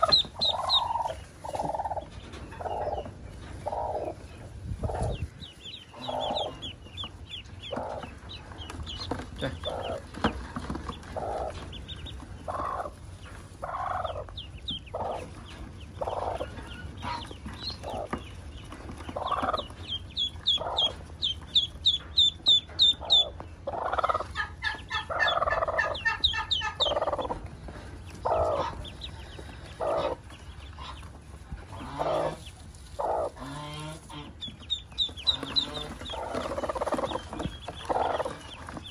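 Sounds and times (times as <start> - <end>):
ducklings peeping: 0.0 - 38.9
hen clucking: 0.0 - 38.9.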